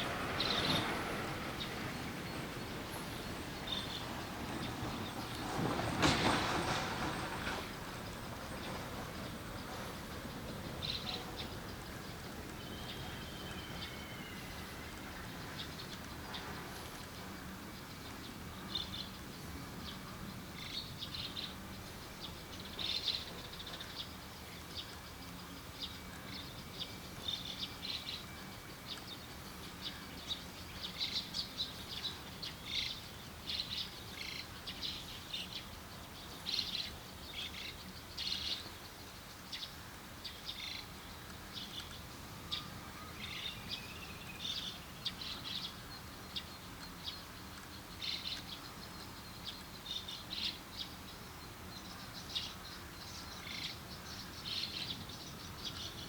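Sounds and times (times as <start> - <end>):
small birds chirping: 7.4 - 56.0.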